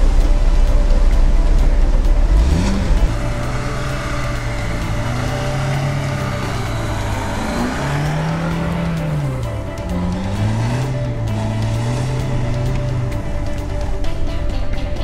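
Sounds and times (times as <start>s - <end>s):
car engine revving: 0.0s - 15.0s
heavy low rumble: 0.0s - 15.0s.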